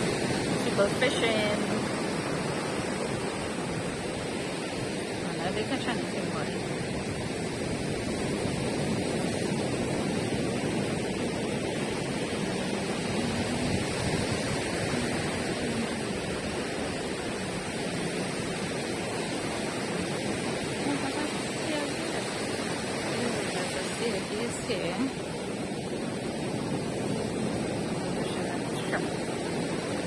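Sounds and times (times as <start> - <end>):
rough surf washing on beach: 0.0 - 30.0.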